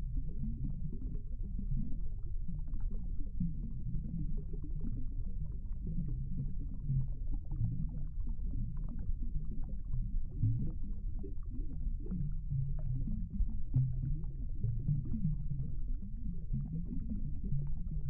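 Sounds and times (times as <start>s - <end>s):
faint clicks and ticks: 0.0s - 18.0s
low underwater rumble: 0.0s - 18.0s.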